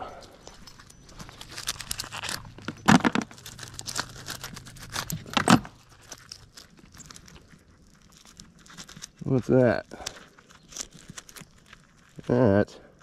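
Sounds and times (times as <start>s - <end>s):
nails clinking and scraping: 0.0s - 12.6s.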